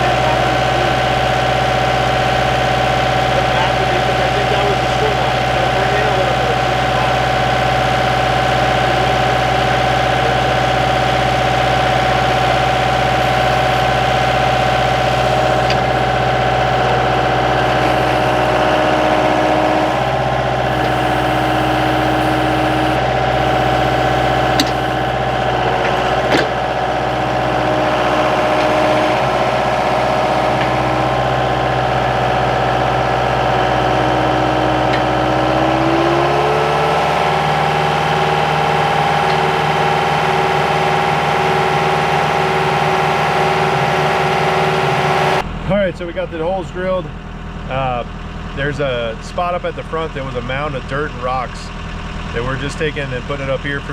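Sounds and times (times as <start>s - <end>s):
skid steer engine running: 0.0s - 53.9s.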